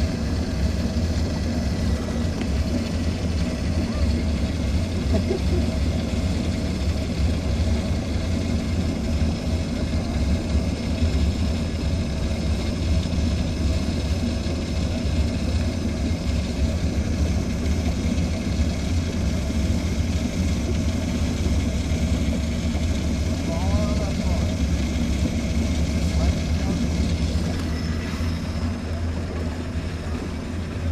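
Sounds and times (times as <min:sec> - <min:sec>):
vehicle engine running steadily: 0:00.0 - 0:30.9.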